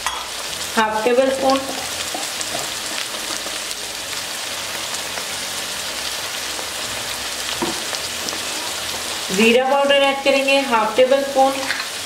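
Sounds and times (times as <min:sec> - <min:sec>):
oil sizzling in a pan: 0:00.0 - 0:12.0.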